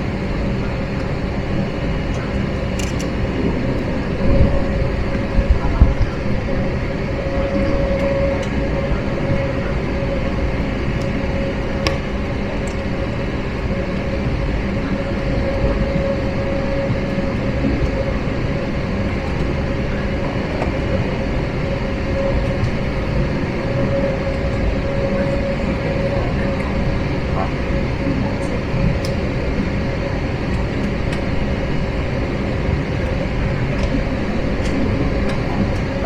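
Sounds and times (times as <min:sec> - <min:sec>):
jet engine cabin roar: 0:00.0 - 0:36.0
steady mid-pitched hum: 0:00.0 - 0:36.0.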